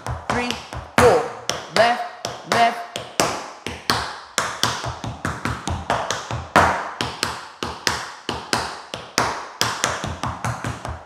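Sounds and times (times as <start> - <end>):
tap shoes striking floor: 0.0 - 11.0.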